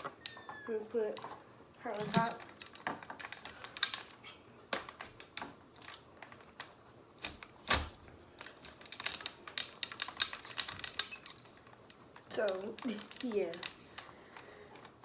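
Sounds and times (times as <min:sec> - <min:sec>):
clicks and knocks from handling: 0:00.0 - 0:15.0.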